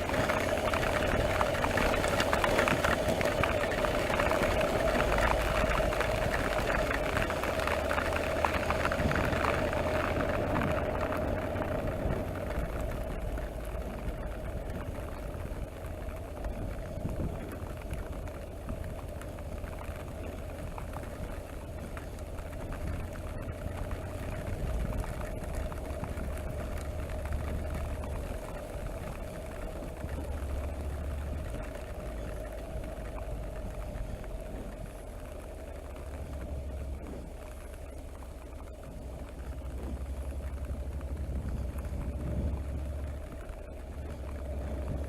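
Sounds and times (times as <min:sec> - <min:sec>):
motorcycle engine running: 0:00.0 - 0:45.0
tyres hissing on wet road: 0:00.0 - 0:45.0
wind noise: 0:00.0 - 0:45.0.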